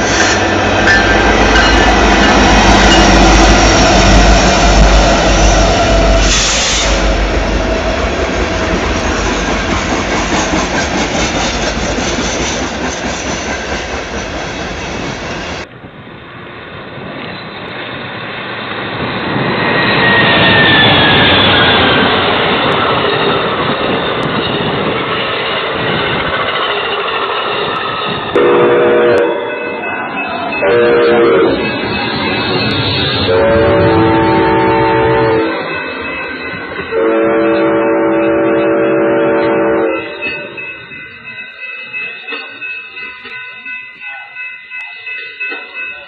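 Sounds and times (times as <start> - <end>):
train rolling past: 0.0 - 46.0.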